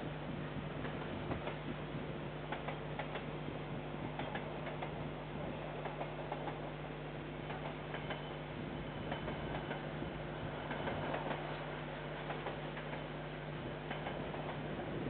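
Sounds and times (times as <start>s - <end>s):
steady low hum: 0.0s - 15.0s
freight train wheels clicking: 0.6s - 15.0s.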